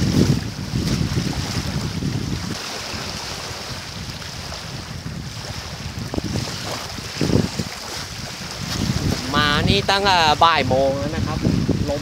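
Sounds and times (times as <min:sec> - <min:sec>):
waves lapping on gravel: 0:00.0 - 0:12.0
wind buffeting microphone: 0:00.0 - 0:12.0.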